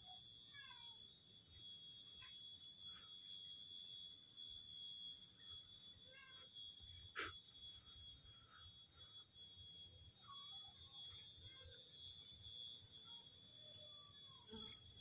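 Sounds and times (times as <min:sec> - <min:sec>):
faint chirps: 0:00.0 - 0:15.0
steady high-pitched whine: 0:00.0 - 0:15.0.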